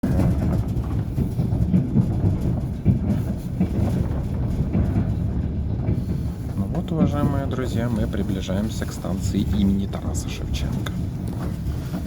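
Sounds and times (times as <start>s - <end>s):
low train rumble: 0.0s - 12.0s
train wheels clattering: 0.0s - 12.0s.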